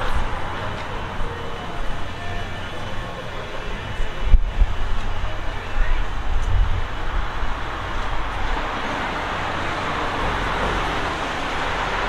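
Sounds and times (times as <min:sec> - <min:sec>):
hiss of passing cars: 0:00.0 - 0:12.0.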